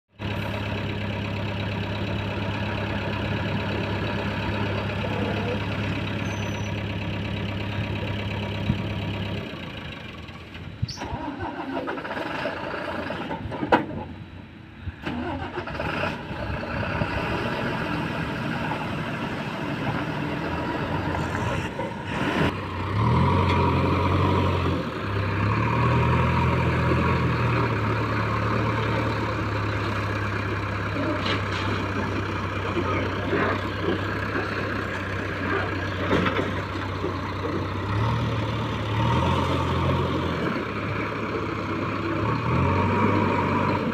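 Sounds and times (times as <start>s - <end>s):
diesel engine idling: 0.1s - 43.9s
truck engine running: 0.1s - 43.9s.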